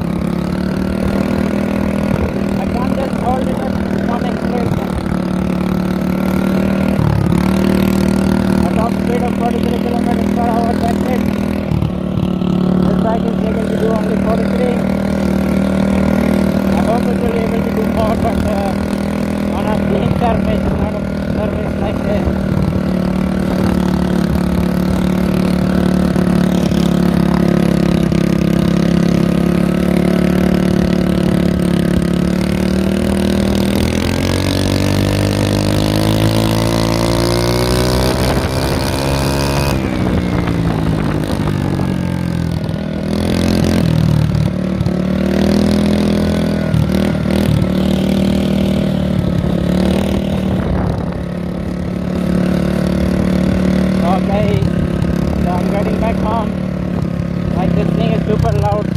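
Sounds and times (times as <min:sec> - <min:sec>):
mini bike engine running: 0:00.0 - 0:58.9.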